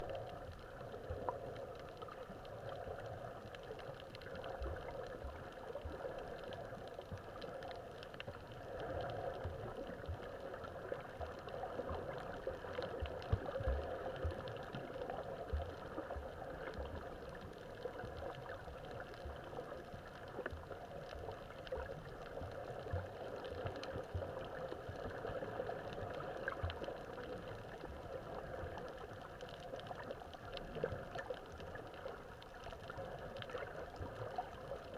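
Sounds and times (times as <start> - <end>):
muffled underwater water noise: 0.0 - 34.9.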